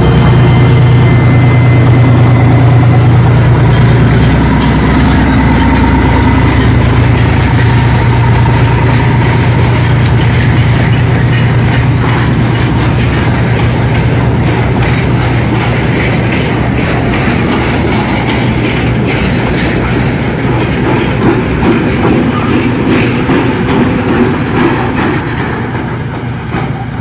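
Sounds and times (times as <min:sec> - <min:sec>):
diesel locomotive drone: 0:00.0 - 0:27.0
wheels clicking over rail joints: 0:00.0 - 0:27.0.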